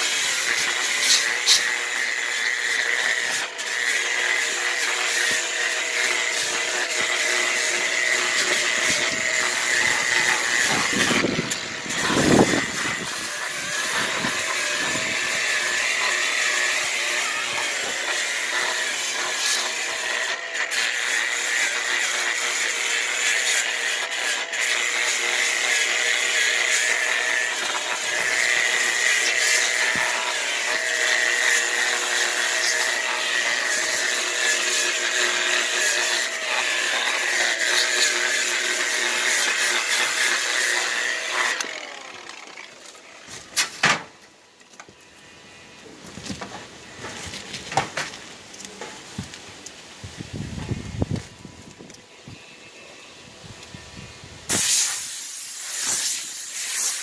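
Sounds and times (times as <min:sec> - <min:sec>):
power tool whining: 0:00.0 - 0:57.0.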